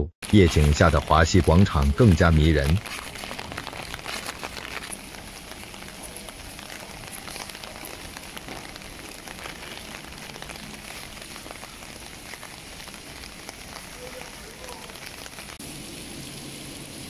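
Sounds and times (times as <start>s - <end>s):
heavy rain hiss: 0.2s - 17.0s.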